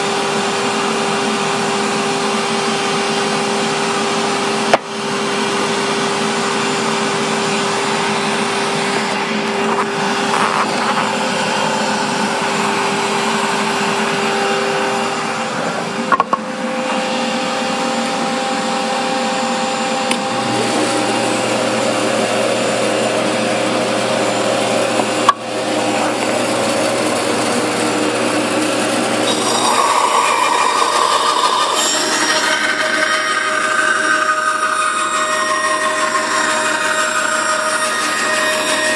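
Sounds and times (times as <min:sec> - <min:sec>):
band saw cutting wood: 0:01.4 - 0:38.9.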